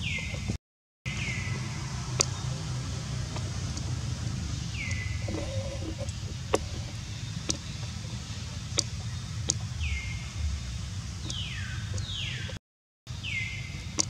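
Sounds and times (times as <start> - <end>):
low rumble: 1.1 - 12.6.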